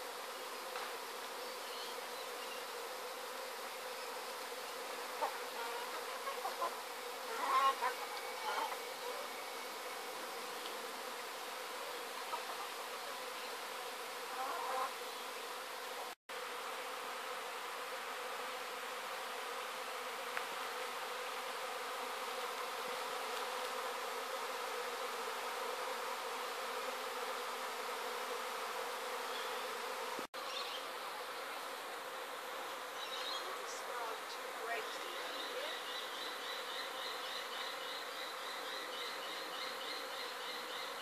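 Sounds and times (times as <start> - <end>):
bee swarm humming: 0.0 - 41.0.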